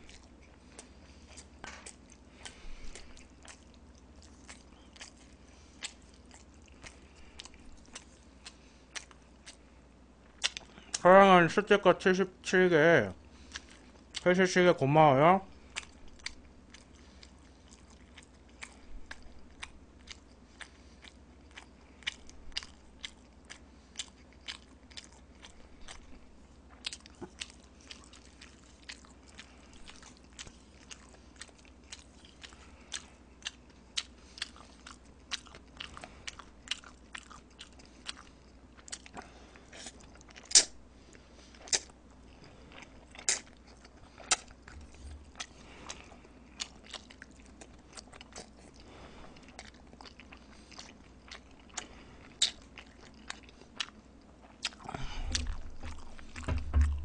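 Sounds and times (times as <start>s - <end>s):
noodle chewing and mouth smacking: 0.0s - 11.0s, 13.3s - 14.4s, 15.5s - 57.0s.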